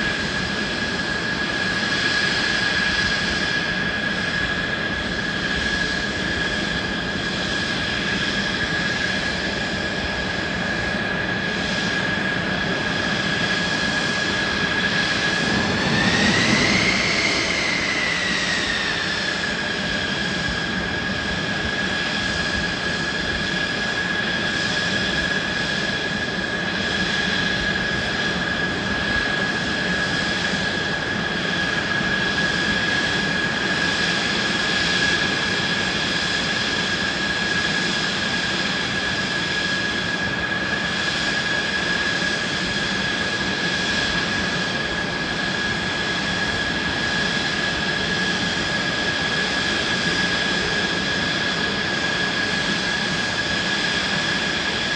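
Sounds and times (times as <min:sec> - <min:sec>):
jet engine idling: 0:00.0 - 0:54.9.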